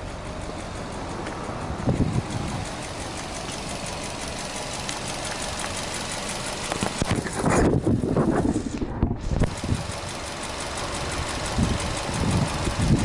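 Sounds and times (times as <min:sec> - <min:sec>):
light rapid engine ticking: 0:00.0 - 0:08.6, 0:09.4 - 0:13.0
car engine idling: 0:00.0 - 0:13.0.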